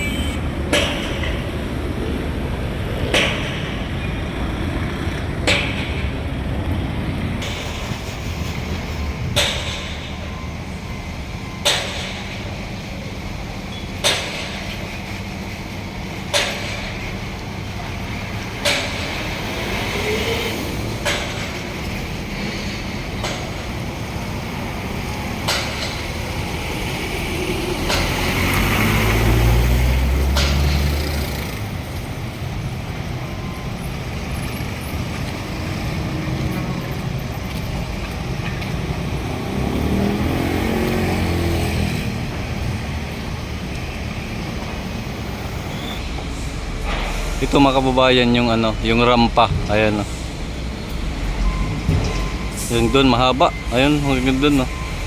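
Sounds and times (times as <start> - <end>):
heavy vehicle passing: 0.0 - 11.5, 15.1 - 55.0
road traffic: 0.0 - 55.0.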